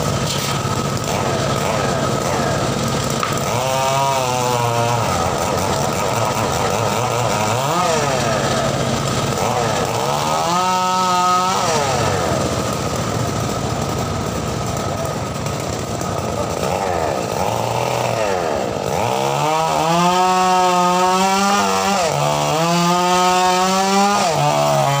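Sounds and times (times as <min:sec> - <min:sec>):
circular saw running: 0:00.0 - 0:25.0.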